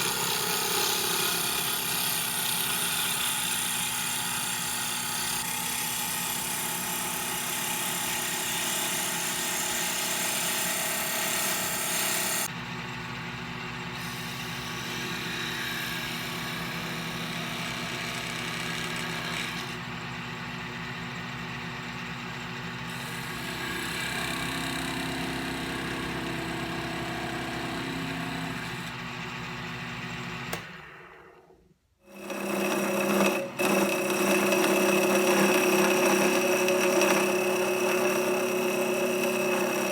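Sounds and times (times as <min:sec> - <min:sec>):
mini lathe running: 0:00.0 - 0:12.6, 0:13.8 - 0:31.5, 0:32.1 - 0:39.9
tool cutting spinning wood: 0:00.0 - 0:12.6, 0:13.8 - 0:21.0, 0:22.5 - 0:39.9.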